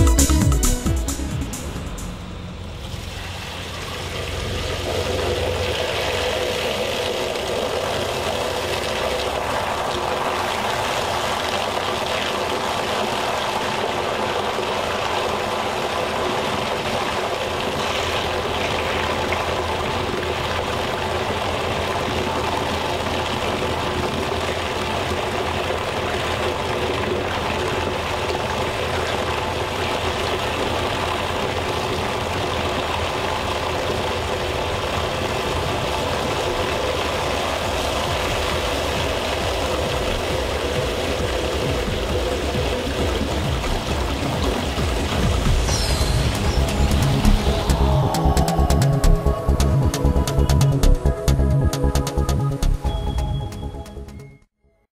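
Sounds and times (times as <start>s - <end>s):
machine hum: 0.0s - 54.2s
water rushing down drain pipes: 2.8s - 52.9s.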